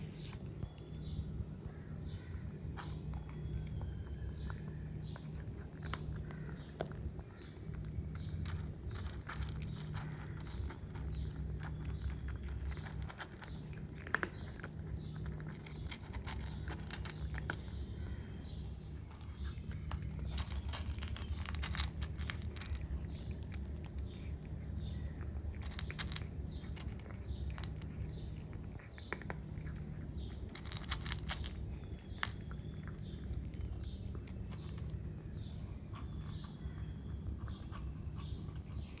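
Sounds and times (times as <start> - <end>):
cat chewing and crunching food: 0.0 - 39.0.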